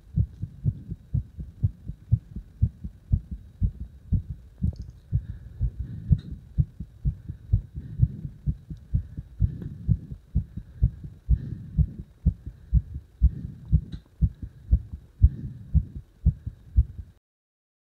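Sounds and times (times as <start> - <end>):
heart beating: 0.0 - 17.1.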